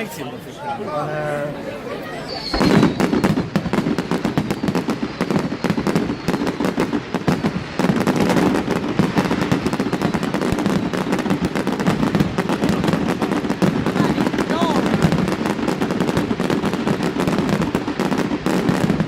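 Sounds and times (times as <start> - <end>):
fireworks crackling bangs: 2.2 - 19.0.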